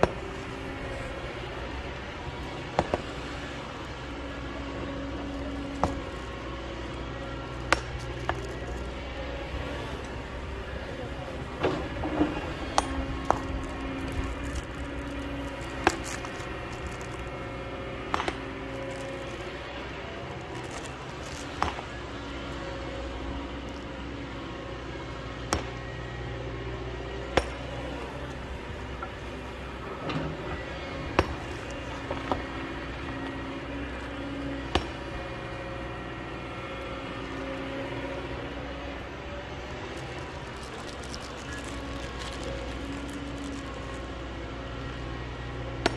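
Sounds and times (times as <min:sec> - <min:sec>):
excavator engine under load: 0:00.0 - 0:45.9.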